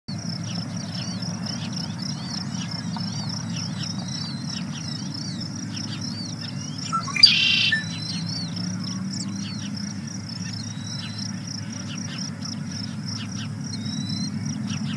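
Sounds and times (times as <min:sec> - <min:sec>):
songbird chirping: 0:00.1 - 0:14.9
loud bird call: 0:00.5 - 0:14.9.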